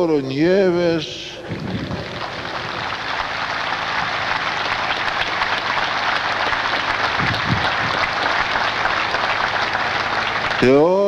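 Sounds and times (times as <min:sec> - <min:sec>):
large crowd applauding: 0:01.4 - 0:11.0.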